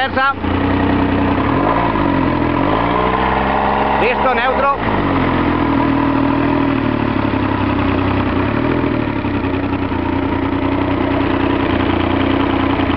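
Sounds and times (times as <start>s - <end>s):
outboard motor idling: 0.0s - 12.9s.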